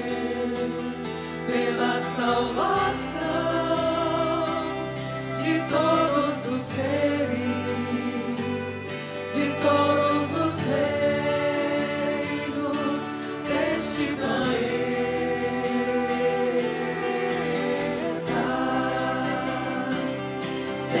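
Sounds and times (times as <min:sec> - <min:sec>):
choir singing slow song: 0:00.0 - 0:21.0
violin: 0:00.0 - 0:21.0.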